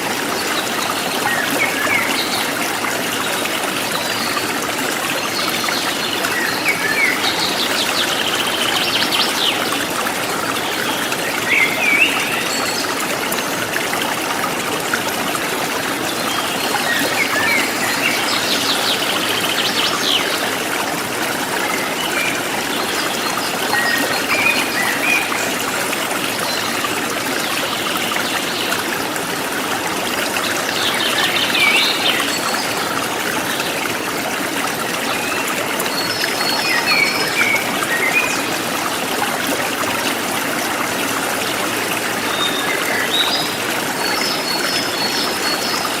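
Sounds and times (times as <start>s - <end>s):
stream running over stones: 0.0s - 46.0s.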